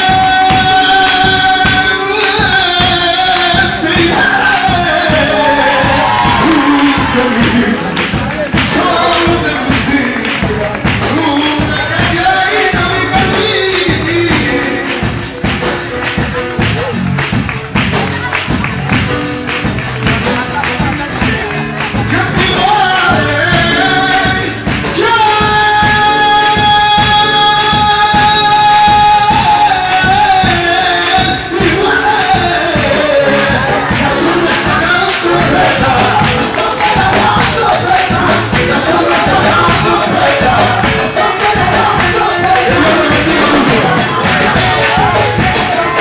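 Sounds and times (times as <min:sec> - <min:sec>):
man singing through microphone: 0:00.0 - 0:17.3, 0:19.4 - 0:46.0
steady rhythmic beat: 0:00.0 - 0:46.0.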